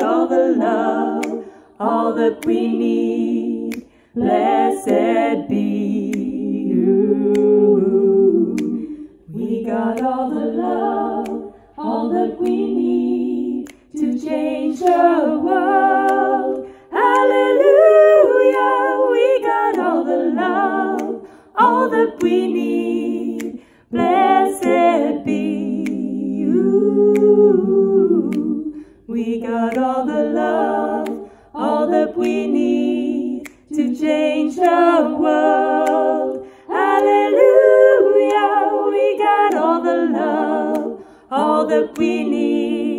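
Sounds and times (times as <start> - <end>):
woman singing a cappella: 0.0 - 42.9.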